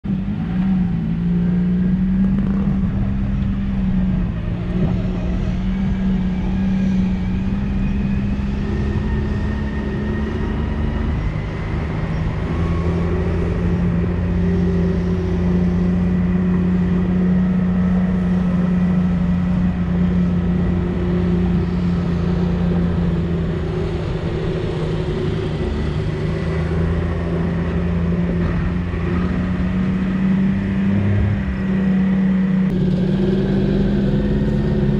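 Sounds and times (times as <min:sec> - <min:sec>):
off-road vehicle engine running: 0:00.0 - 0:34.9.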